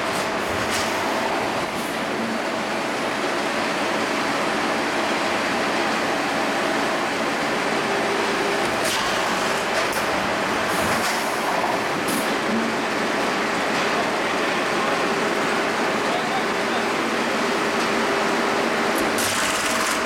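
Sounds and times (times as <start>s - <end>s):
steady machine noise: 0.0s - 20.0s.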